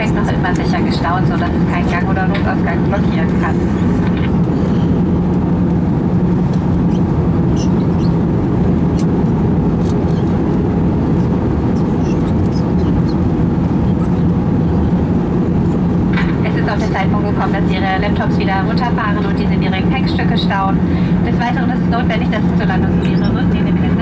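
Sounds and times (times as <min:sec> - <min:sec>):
airplane engines and airflow roar: 0:00.0 - 0:24.0
low hum: 0:00.0 - 0:24.0.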